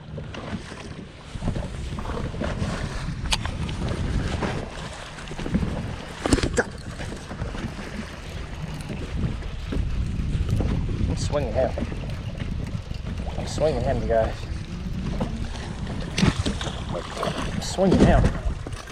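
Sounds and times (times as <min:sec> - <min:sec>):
water slapping boat hull: 0:00.0 - 0:18.9
wind buffeting microphone: 0:00.0 - 0:18.9.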